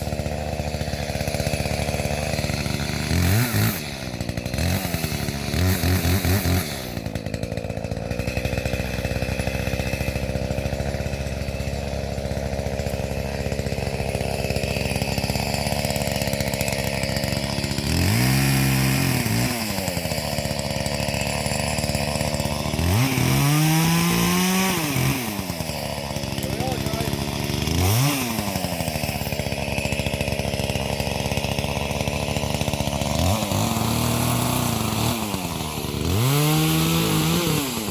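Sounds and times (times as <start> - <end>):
chainsaw running and revving: 0.0 - 37.9.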